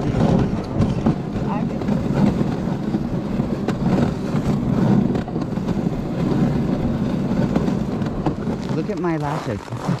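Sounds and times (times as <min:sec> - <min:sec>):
sled runners rumbling over snow: 0:00.0 - 0:10.0.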